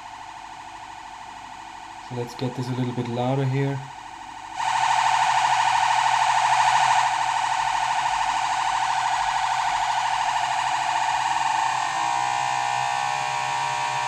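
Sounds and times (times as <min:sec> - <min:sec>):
synthesizer tone with rough wobble: 0:00.0 - 0:14.0.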